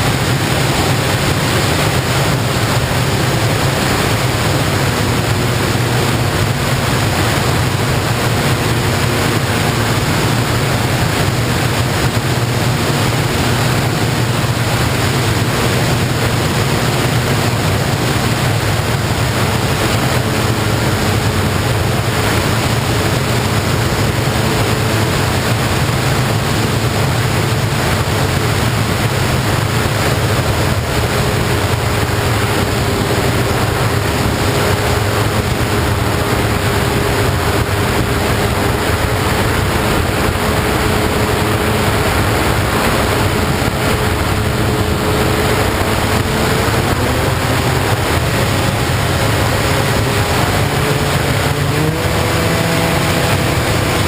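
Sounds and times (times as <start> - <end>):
model plane motor whine: 0.0 - 54.0
wind rush: 0.0 - 54.0.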